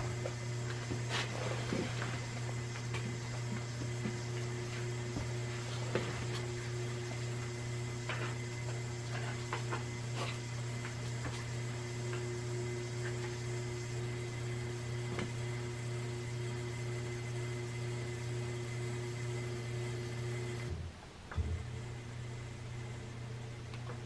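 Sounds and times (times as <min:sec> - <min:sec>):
ceiling fan motor humming: 0:00.0 - 0:24.0.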